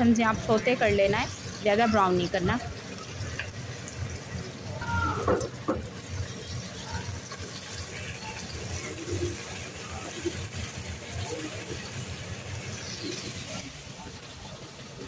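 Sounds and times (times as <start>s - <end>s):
paste sizzling in hot oil: 0.0s - 14.5s.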